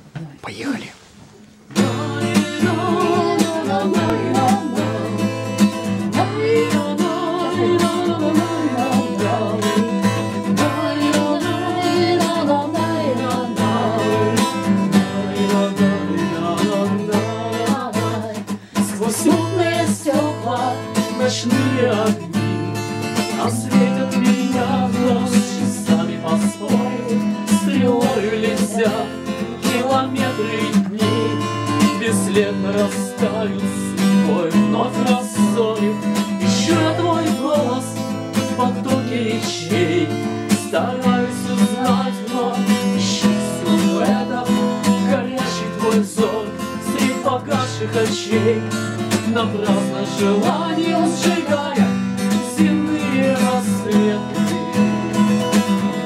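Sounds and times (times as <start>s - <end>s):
acoustic guitar strumming: 1.6s - 56.0s.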